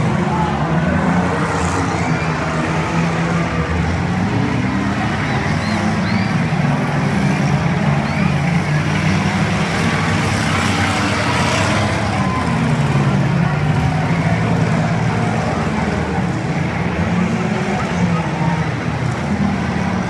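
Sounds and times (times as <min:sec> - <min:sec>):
arena noise: 0:00.0 - 0:20.0
car engines revving: 0:00.0 - 0:20.0.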